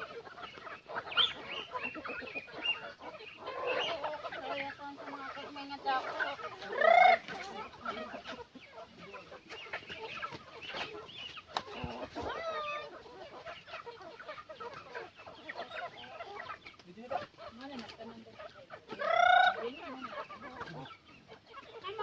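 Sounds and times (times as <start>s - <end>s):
chicken squawk: 0.0s - 22.0s
chickens clucking: 0.0s - 22.0s.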